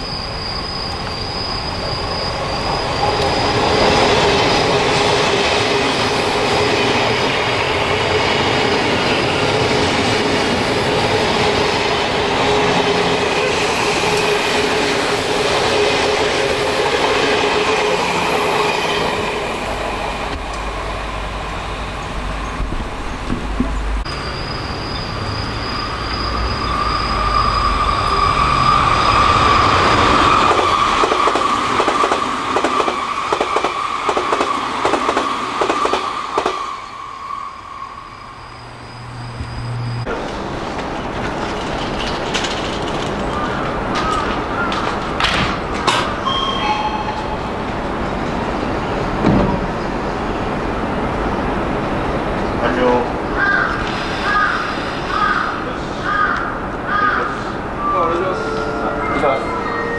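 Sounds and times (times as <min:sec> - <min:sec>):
electric train passing: 0:00.0 - 0:59.9
train approaching: 0:00.0 - 0:59.9.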